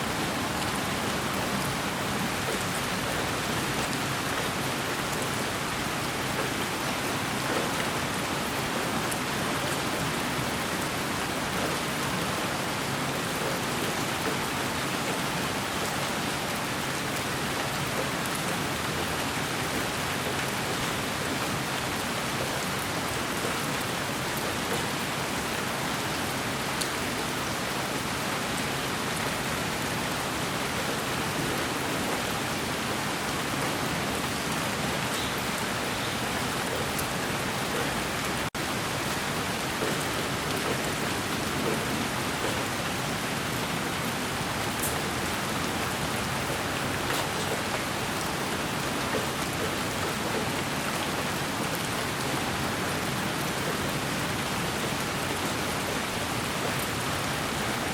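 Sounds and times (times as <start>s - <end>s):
rain-like white noise hiss: 0.0s - 57.9s.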